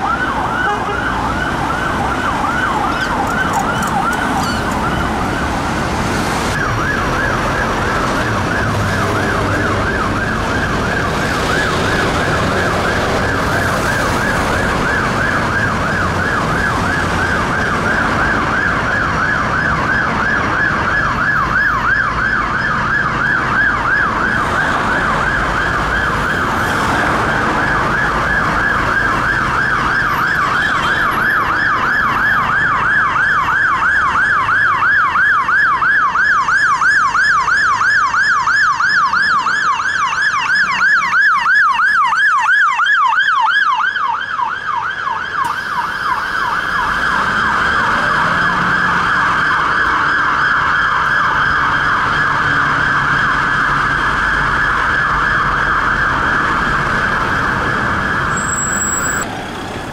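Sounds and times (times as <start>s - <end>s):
fire engine siren yelping: 0.0s - 59.9s
idling traffic rumble: 0.0s - 59.9s.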